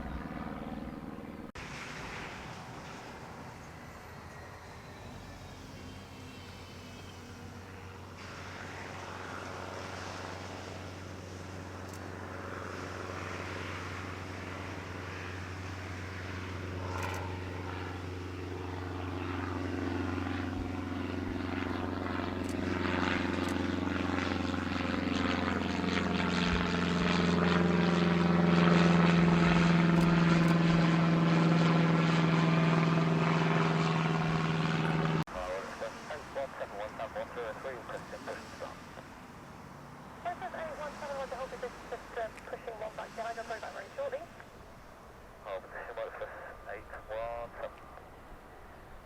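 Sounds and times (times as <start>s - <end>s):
aircraft engines humming: 0.0s - 49.0s.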